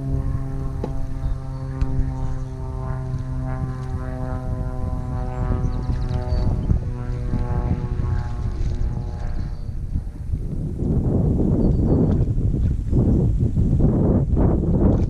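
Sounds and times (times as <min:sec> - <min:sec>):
droning engine: 0:00.0 - 0:15.0
rough low rumble: 0:00.0 - 0:15.0.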